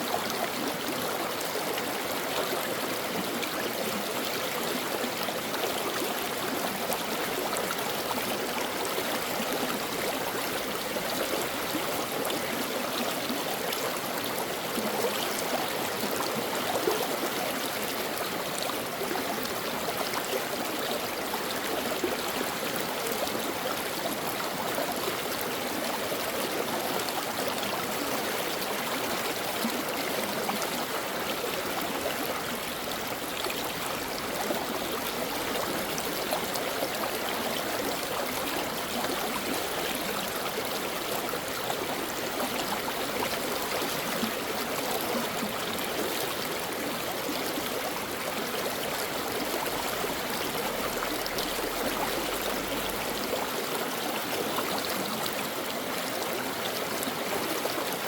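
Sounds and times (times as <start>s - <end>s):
stream water babbling: 0.0s - 58.0s.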